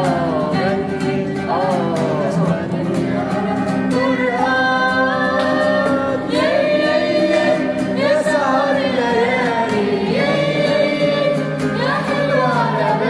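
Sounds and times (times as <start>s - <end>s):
instrumental accompaniment: 0.0s - 13.0s
voices singing ornamented notes: 0.0s - 13.0s.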